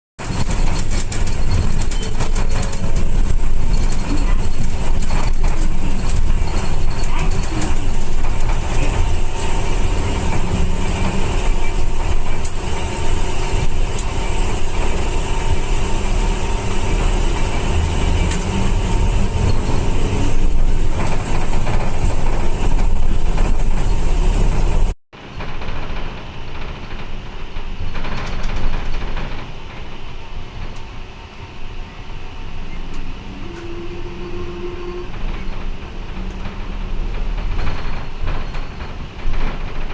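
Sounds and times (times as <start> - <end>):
road noise: 0.2 - 25.0, 30.2 - 39.7
bus engine rumble: 0.2 - 39.9.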